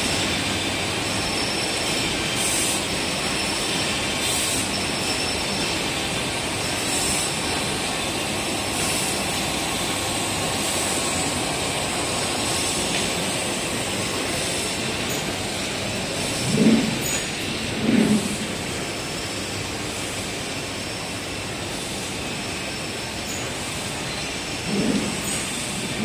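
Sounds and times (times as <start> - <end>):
factory machinery din: 0.0 - 19.9, 21.2 - 26.0.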